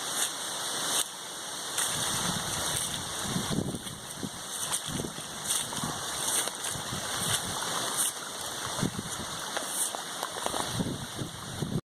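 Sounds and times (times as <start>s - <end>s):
water rushing and gurgling: 0.0s - 11.8s.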